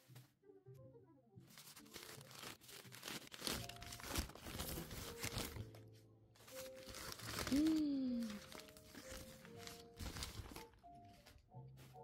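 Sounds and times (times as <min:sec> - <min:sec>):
newspaper crinkling and tearing: 0:01.5 - 0:12.0.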